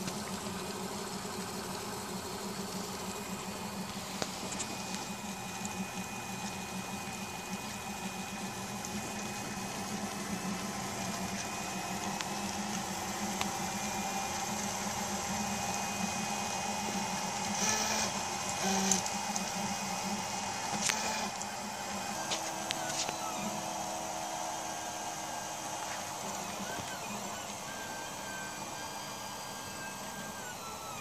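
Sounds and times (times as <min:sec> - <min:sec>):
stepper motors humming and whining: 0:00.0 - 0:31.0.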